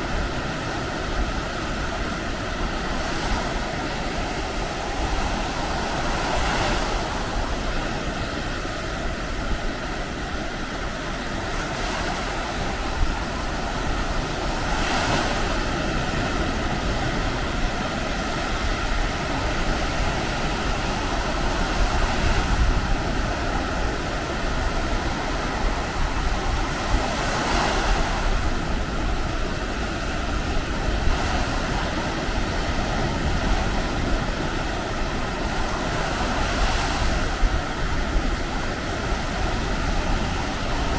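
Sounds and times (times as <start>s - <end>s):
surf washing onto beach: 0.0s - 40.9s
waves breaking: 0.0s - 40.9s
wind buffeting microphone: 0.0s - 40.9s.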